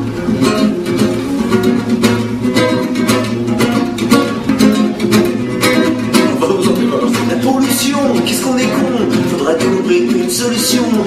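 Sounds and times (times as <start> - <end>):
classical guitar strumming chords: 0.0 - 11.0.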